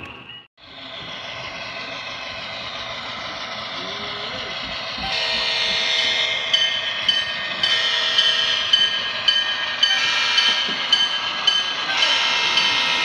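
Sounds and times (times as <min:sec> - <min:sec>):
wheels clicking on rail joints: 0:00.0 - 0:13.0
model train whine: 0:00.1 - 0:13.0.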